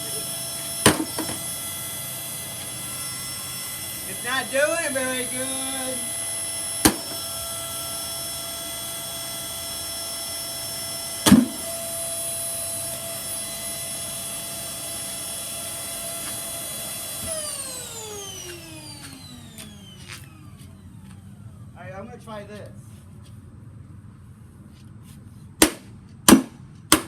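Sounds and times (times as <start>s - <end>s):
vacuum cleaner motor whine: 0.0s - 22.2s.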